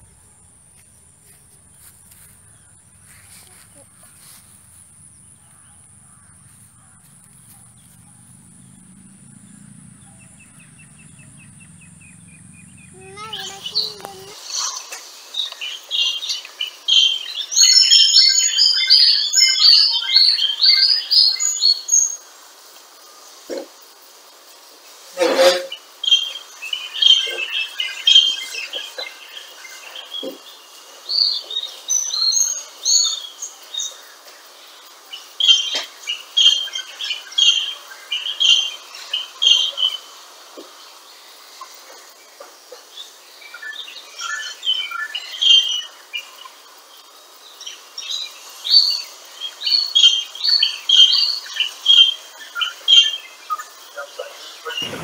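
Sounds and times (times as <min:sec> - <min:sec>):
small birds chirping: 0:00.0 - 0:25.0, 0:25.7 - 0:55.0.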